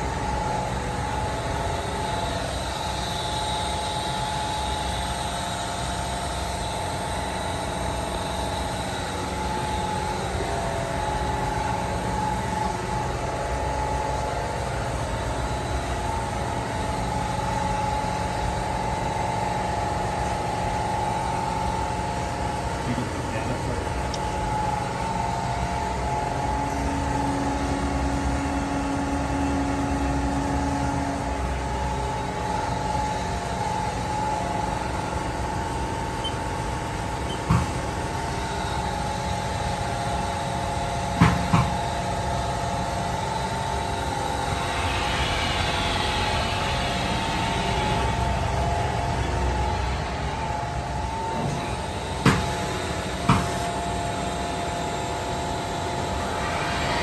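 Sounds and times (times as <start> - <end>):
lower machine tone: 0.0 - 57.0
machine shop equipment hum: 0.0 - 57.0.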